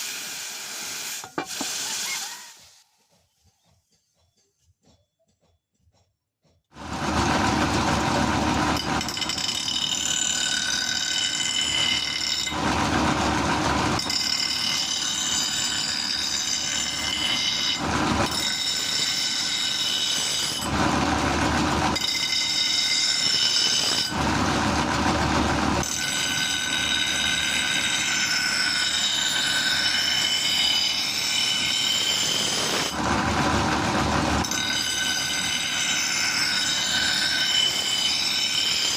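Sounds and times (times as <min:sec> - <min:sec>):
power grinder grinding steel: 0:00.0 - 0:02.8, 0:06.8 - 0:38.9.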